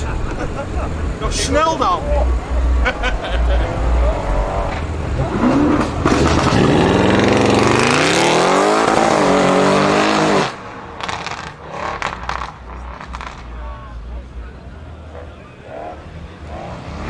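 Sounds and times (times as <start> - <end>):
supercar engine accelerating: 2.2 - 17.0.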